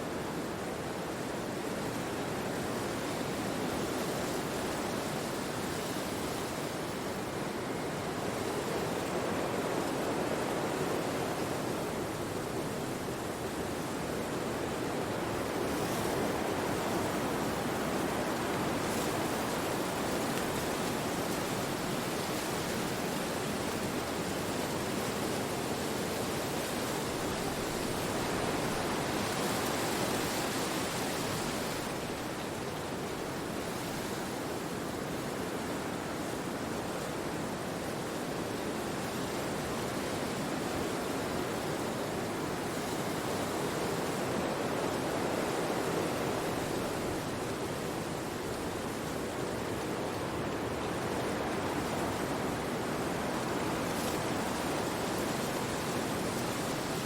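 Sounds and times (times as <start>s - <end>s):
wind rushing through trees: 0.0s - 57.0s.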